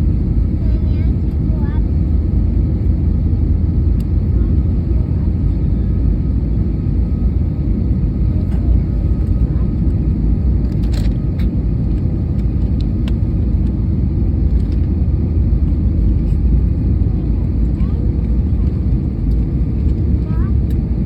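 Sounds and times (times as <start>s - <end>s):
engine and airflow rumble: 0.0s - 21.0s.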